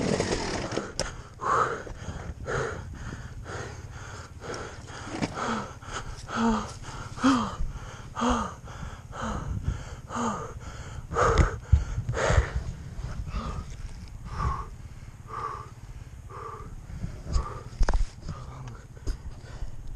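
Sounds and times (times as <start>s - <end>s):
person breathing hard and gasping: 0.9s - 19.9s.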